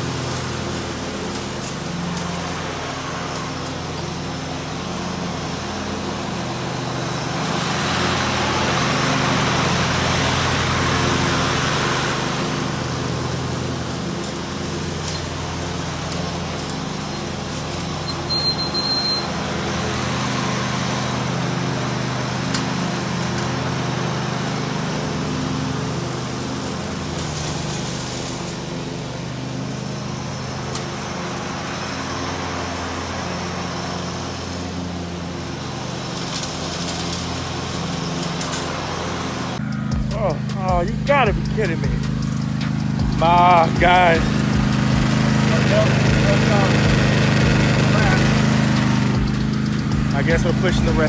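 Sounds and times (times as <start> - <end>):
riding lawn mower engine: 0.0 - 51.0.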